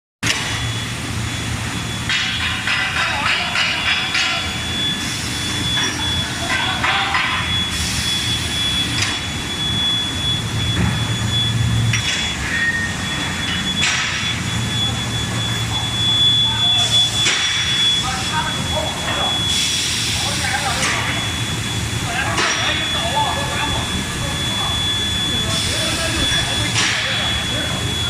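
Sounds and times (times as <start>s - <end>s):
induction heater whine: 0.3s - 28.0s.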